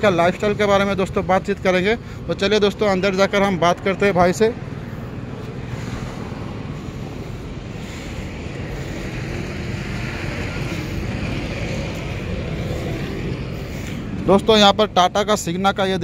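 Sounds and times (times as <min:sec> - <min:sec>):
road traffic rumble: 0:00.0 - 0:16.0
vehicle passing: 0:00.0 - 0:16.0.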